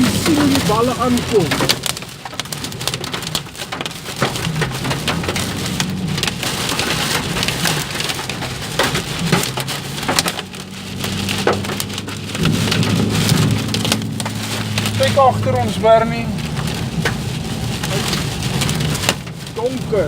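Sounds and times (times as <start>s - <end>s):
hail and rain pelting a car: 0.0s - 20.0s.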